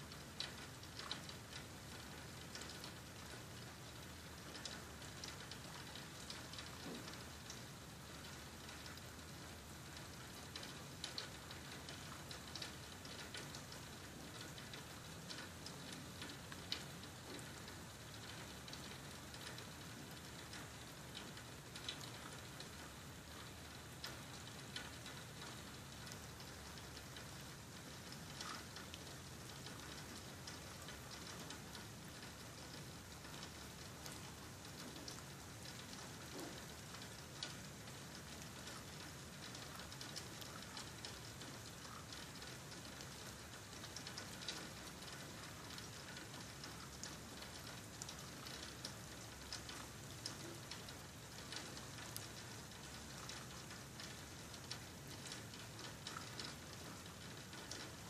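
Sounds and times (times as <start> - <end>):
faint rain falling: 0.0 - 58.0
raindrops ticking nearby: 0.0 - 58.0.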